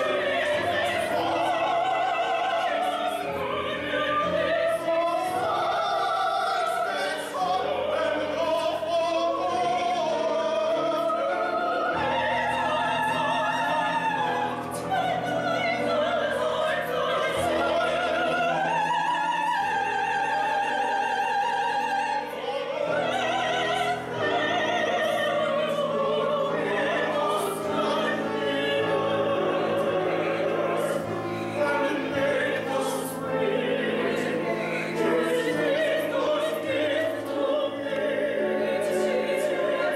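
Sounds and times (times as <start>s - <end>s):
opera ensemble singing: 0.0s - 39.9s.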